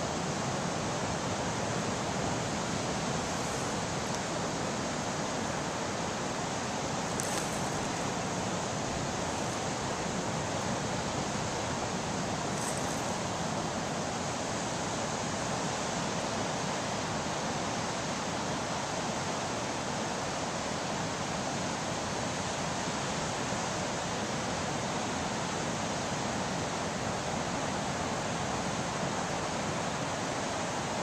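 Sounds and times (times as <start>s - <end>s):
ocean surf breaking on beach: 0.0s - 31.0s.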